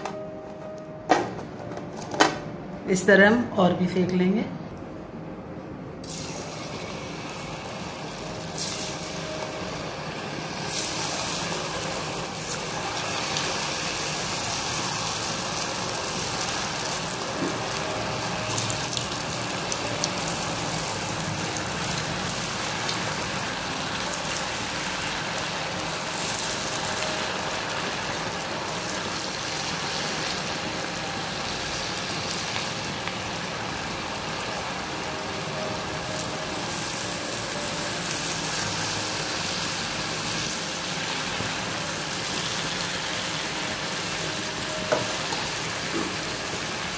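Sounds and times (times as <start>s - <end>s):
fries sizzling in hot oil: 6.0s - 46.9s.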